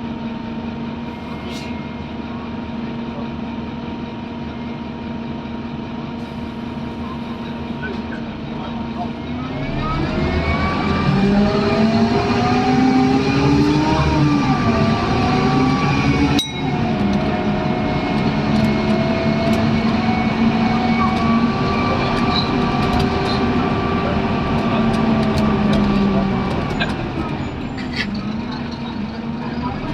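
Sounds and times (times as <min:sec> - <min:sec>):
bus engine whine accelerating: 0:00.0 - 0:29.9.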